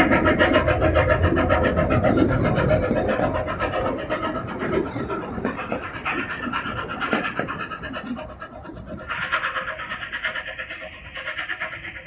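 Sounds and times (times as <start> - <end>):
train wheels clattering on rail: 0.0 - 12.0.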